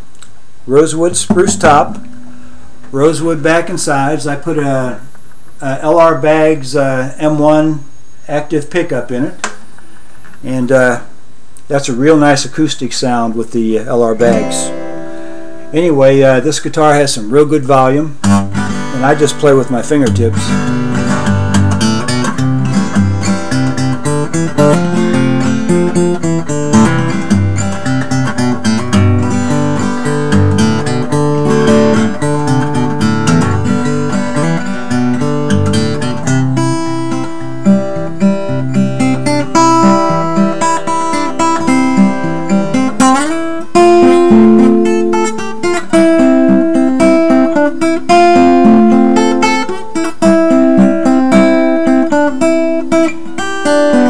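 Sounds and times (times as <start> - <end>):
acoustic guitar chords: 0.0 - 9.3, 11.7 - 54.0.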